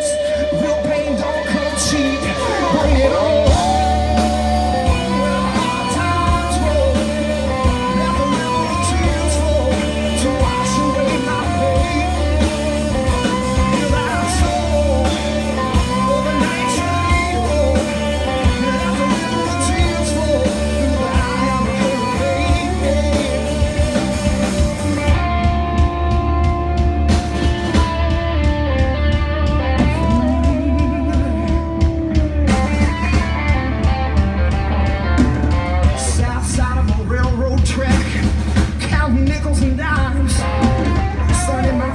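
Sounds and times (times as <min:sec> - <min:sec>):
bass and drums: 0:00.0 - 0:41.9
electric guitar lead: 0:00.0 - 0:41.9.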